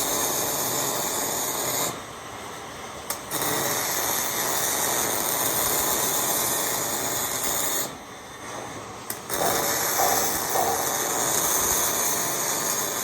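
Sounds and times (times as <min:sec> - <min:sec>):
welding arc crackling: 0:00.0 - 0:02.1, 0:03.1 - 0:13.0.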